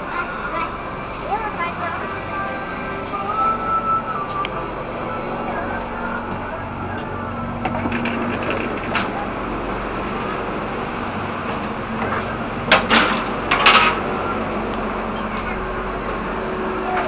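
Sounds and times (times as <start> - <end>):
train carriage hum and rumble: 0.0 - 17.0.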